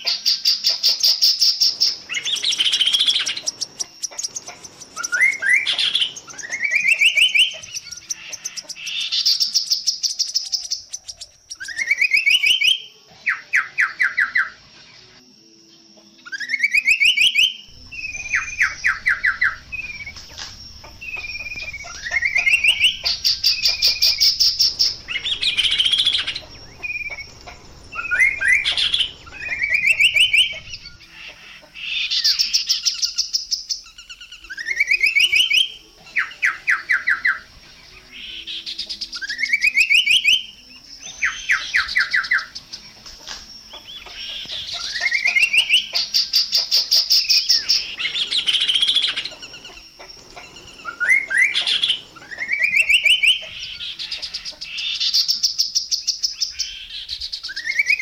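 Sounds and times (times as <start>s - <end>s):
bird singing with rattling trills: 0.0s - 14.6s, 16.2s - 58.0s.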